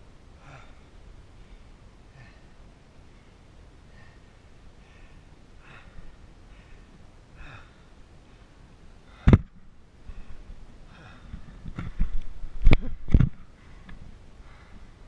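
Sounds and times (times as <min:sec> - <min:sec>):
man breathing heavily: 0:00.3 - 0:12.1, 0:12.9 - 0:15.0.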